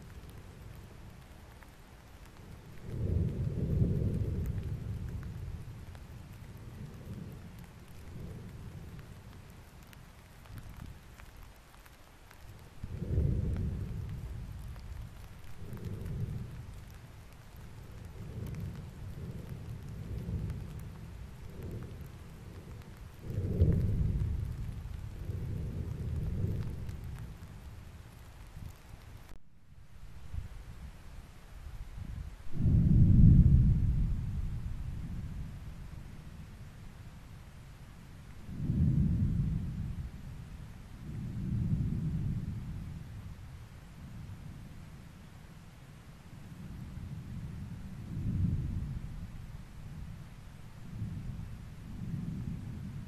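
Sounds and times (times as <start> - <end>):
volcano rumbling: 0.0 - 29.4, 32.2 - 53.0
faint crackles: 0.0 - 53.0.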